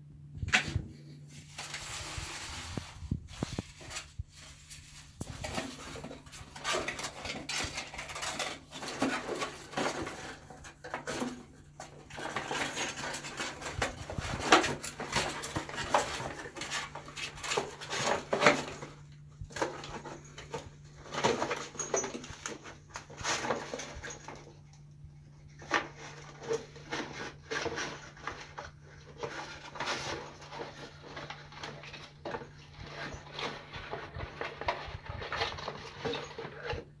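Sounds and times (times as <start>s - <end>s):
paper and cardboard rustling: 0.4s - 37.0s.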